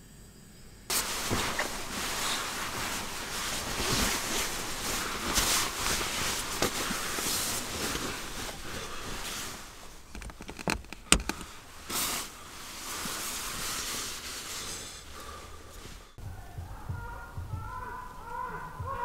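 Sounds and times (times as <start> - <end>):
rustling: 0.9 - 16.2.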